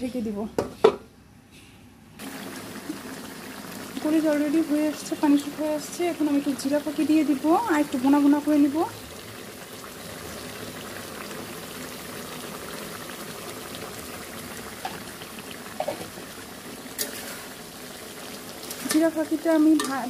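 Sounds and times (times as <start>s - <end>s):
curry bubbling and sizzling: 2.2s - 20.0s.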